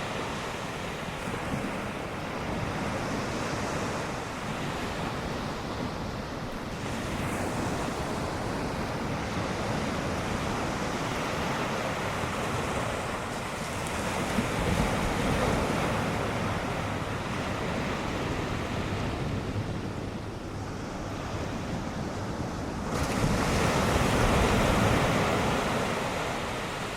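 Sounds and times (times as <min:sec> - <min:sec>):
breaking ocean waves: 0:00.0 - 0:26.9.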